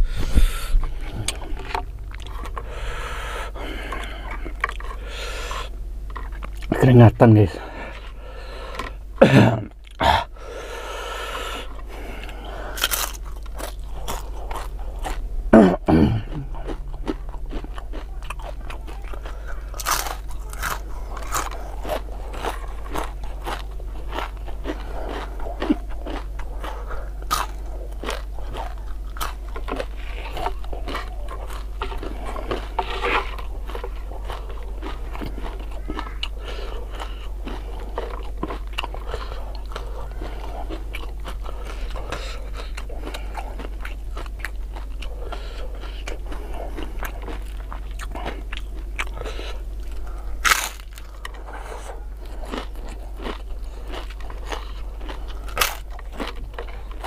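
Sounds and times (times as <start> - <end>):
crunching and chewing: 0.0 - 57.0
wet mouth sounds: 11.2 - 57.0.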